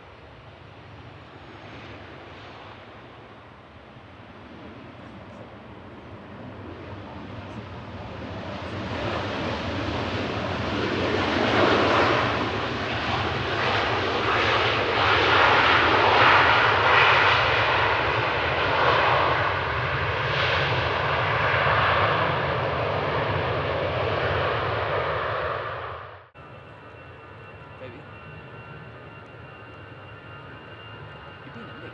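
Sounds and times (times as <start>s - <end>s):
jet engine roar: 0.0s - 31.9s.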